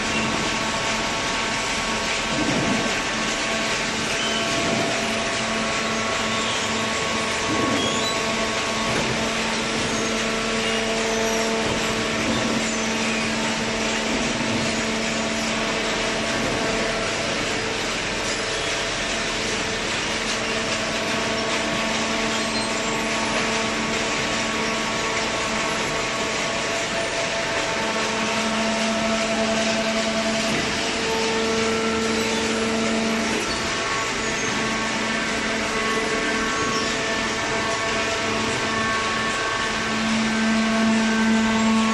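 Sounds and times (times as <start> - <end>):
cardboard baler running: 0.0 - 41.9.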